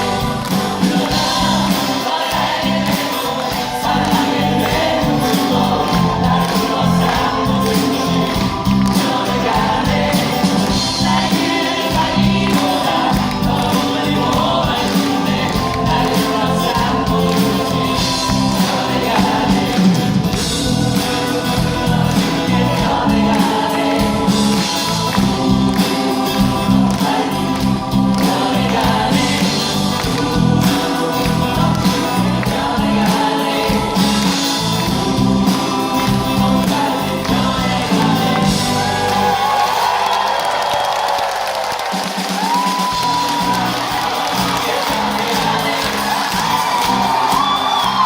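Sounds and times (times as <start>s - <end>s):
live band accompaniment: 0.0s - 48.0s
voices singing together: 0.0s - 48.0s.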